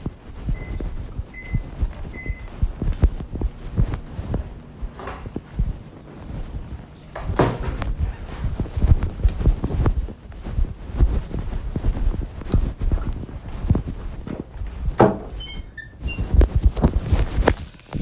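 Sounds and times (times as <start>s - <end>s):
low thumps and rubbing: 0.0s - 18.0s.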